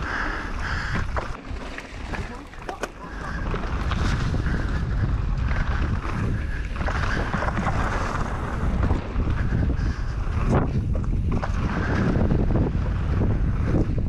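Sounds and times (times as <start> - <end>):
tyre roar on dirt: 0.0 - 14.0
wind rushing over microphone: 0.0 - 14.0
bike clattering over bumps: 0.1 - 14.0.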